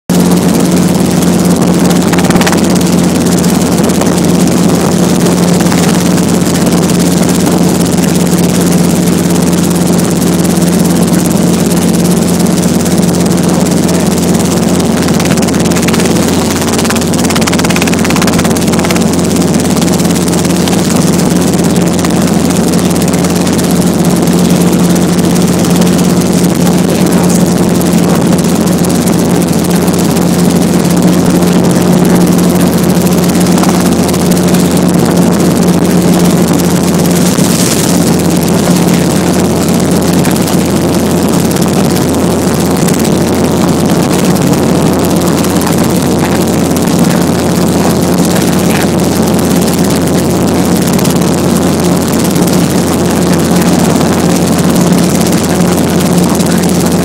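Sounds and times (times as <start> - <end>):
helicopter drone: 0.1 - 57.0.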